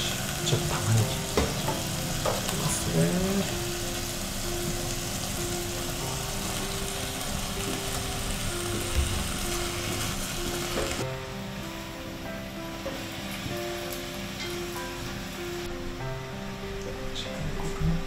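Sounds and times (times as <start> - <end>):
meat and onion sizzling: 0.0 - 18.0
soft background music: 0.0 - 18.0.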